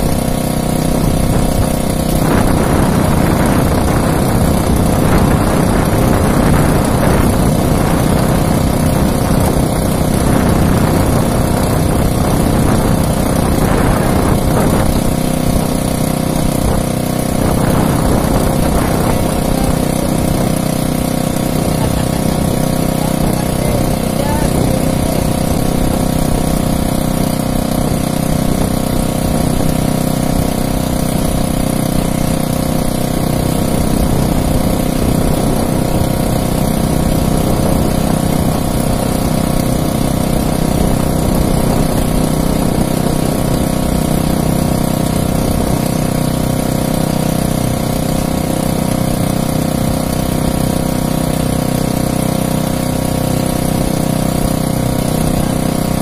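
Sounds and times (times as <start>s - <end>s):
boat engine running steadily: 0.0s - 56.0s.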